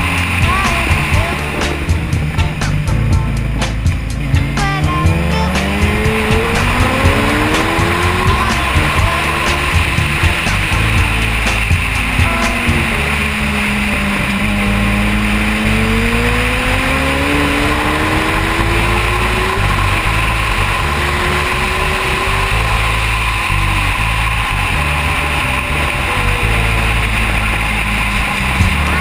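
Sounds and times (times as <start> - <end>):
heavy wind noise: 0.0 - 29.0
motorcycle engine accelerating: 0.0 - 29.0.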